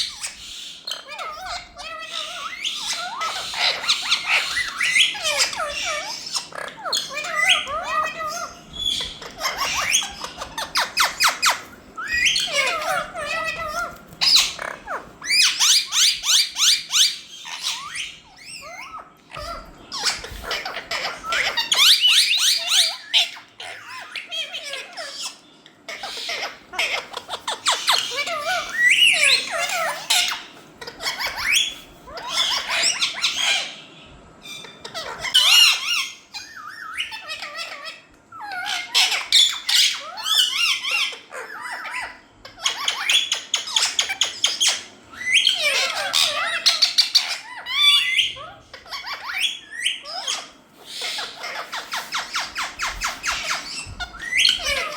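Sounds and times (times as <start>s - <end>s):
parrot squawking and chattering: 0.0s - 54.9s.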